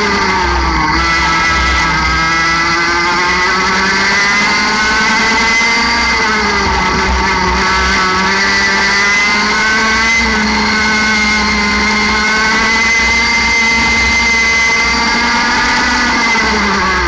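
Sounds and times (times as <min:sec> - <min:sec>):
kart engine at full throttle: 0:00.0 - 0:17.0.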